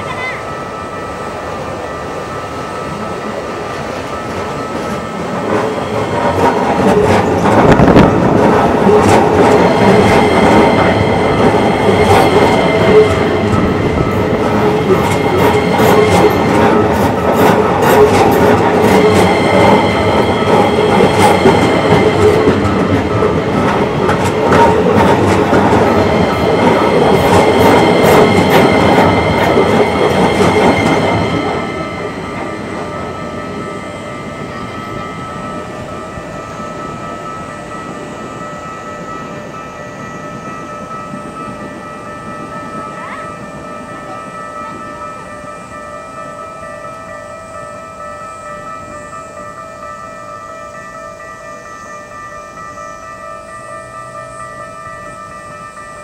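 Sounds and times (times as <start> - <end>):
electric train passing: 0.0 - 56.0.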